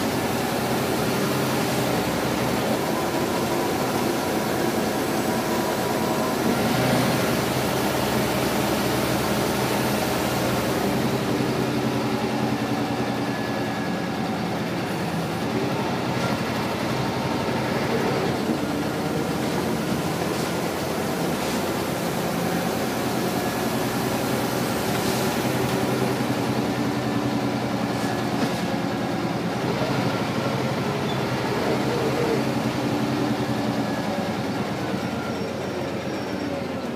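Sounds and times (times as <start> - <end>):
bus diesel engine pulling through gears: 0.0 - 36.9
road noise: 0.0 - 36.9.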